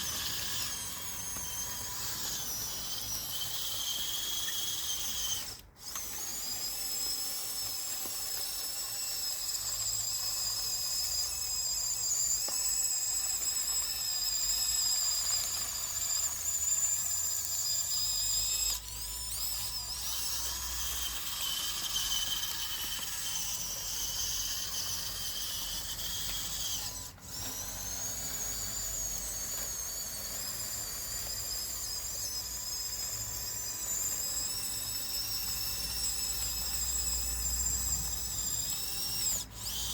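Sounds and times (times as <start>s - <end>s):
toy bulldozer motor whine: 0.0s - 39.9s.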